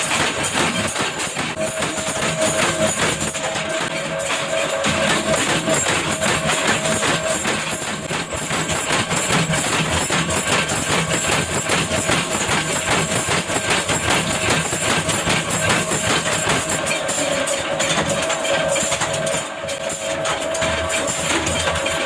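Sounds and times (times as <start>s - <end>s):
factory machinery clattering: 0.0s - 22.0s.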